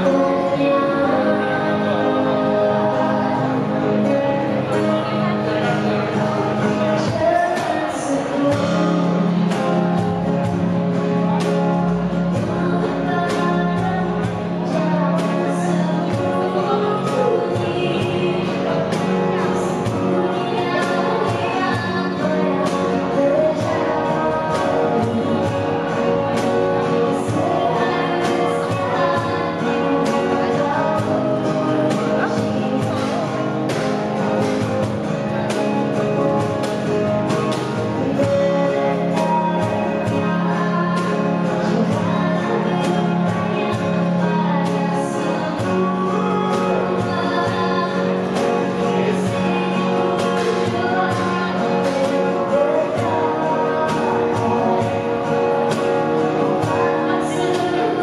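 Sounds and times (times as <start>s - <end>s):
cajon beat: 0.0s - 58.0s
strummed acoustic guitar: 0.0s - 58.0s
woman singing into a microphone: 0.0s - 58.0s.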